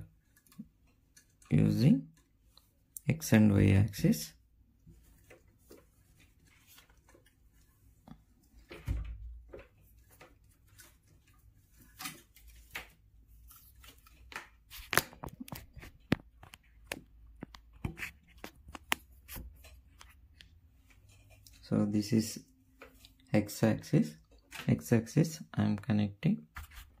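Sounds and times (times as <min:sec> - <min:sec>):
wires rustling and clicking: 0:00.0 - 0:25.9.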